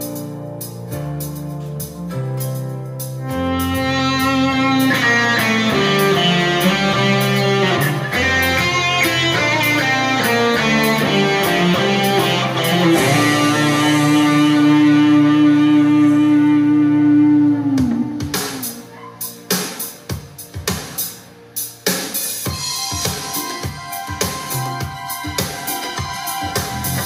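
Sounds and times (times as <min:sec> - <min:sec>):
overdriven electric guitar melody: 0:00.0 - 0:19.6, 0:22.5 - 0:27.0
low backing chords: 0:00.0 - 0:27.0.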